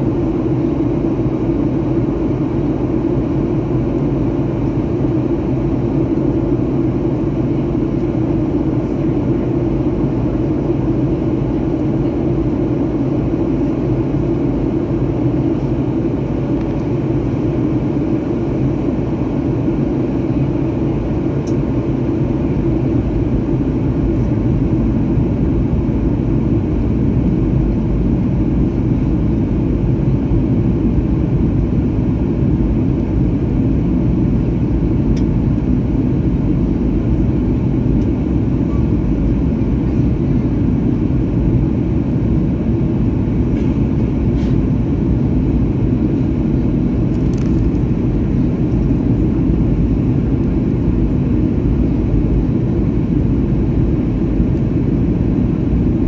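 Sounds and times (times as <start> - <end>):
airliner cabin engine and air noise: 0.0 - 56.0.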